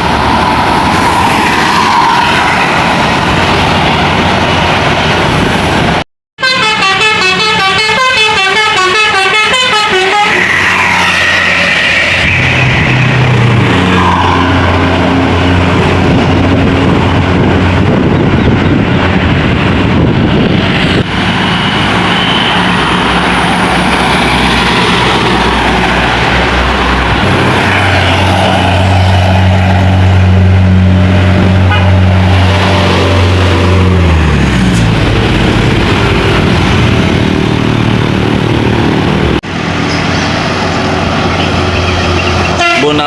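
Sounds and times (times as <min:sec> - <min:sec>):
heavy vehicles passing: 0:00.0 - 0:43.0.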